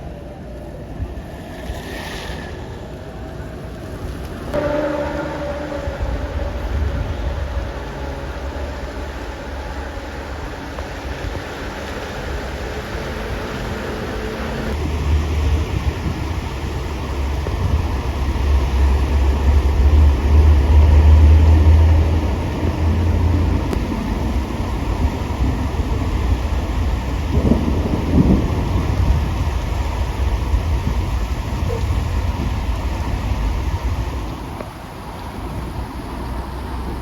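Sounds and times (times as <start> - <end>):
heavy rain falling: 0.0 - 37.0
vehicle engine rumbling: 0.0 - 37.0.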